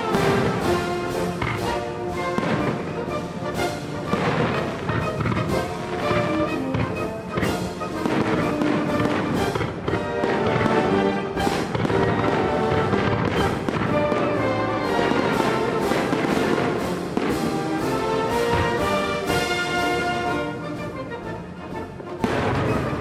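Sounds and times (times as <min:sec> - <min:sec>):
firework shells bursting: 0:00.0 - 0:19.8
orchestral music with brass: 0:00.0 - 0:23.0.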